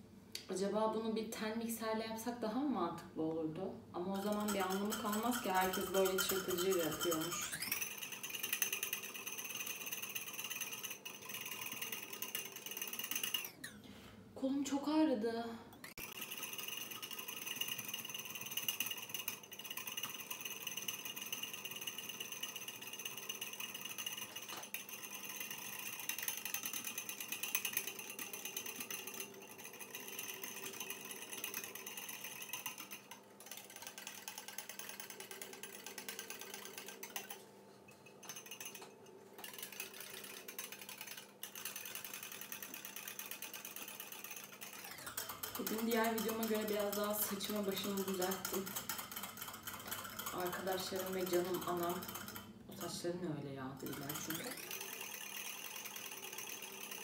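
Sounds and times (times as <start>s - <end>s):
wire whisk beating in bowl: 4.0s - 13.6s, 15.8s - 37.4s, 38.0s - 57.0s.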